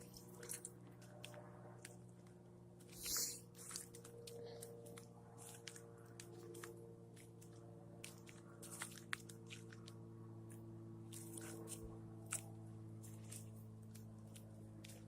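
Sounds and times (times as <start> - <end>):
faint crunching and clicking: 0.0 - 15.0
steady low hum: 0.0 - 15.0.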